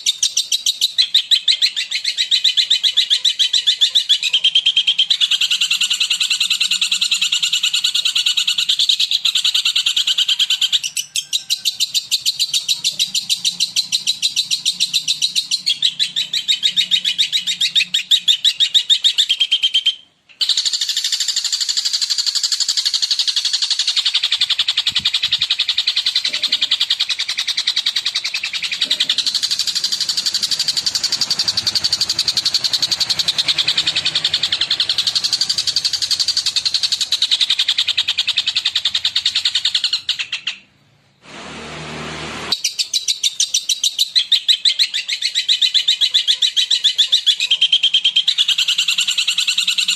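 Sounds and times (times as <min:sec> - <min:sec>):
bird chattering song: 0:00.0 - 0:40.7, 0:42.5 - 0:49.9.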